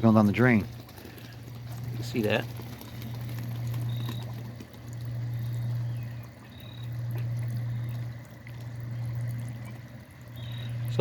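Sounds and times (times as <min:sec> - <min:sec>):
water gurgling down a drain: 0:00.0 - 0:11.0.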